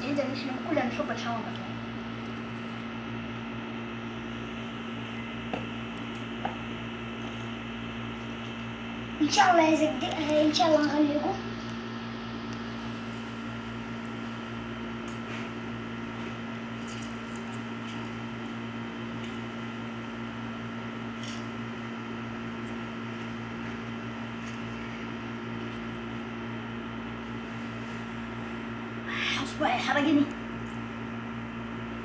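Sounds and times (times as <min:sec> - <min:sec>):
appliance mechanical hum: 0:00.0 - 0:32.0.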